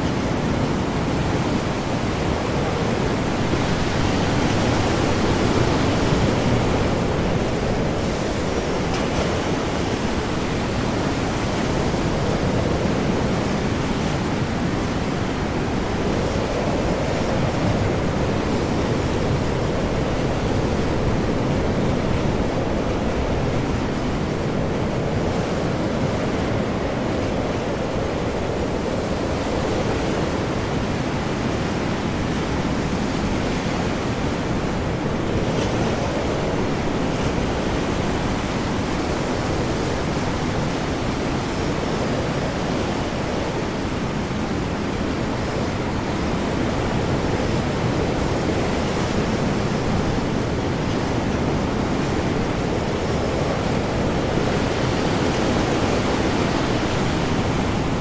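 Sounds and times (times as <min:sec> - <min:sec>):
heavy waves churning: 0:00.0 - 0:58.0
high wind: 0:00.0 - 0:58.0.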